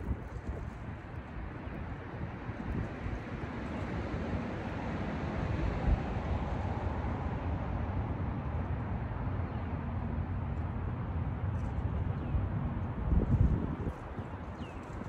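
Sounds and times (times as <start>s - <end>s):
wind across microphone: 0.0s - 9.6s, 10.6s - 15.0s.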